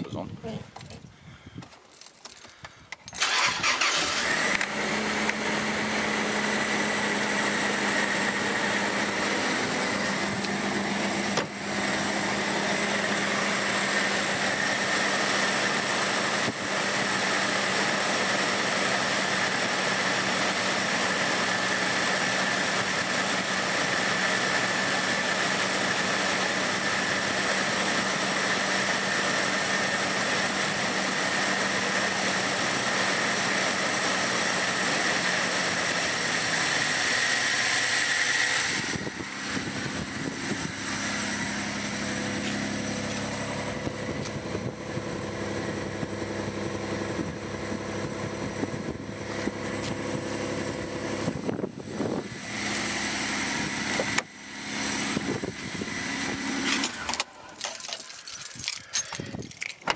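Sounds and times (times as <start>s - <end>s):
engine cranking and idling: 2.9s - 59.9s.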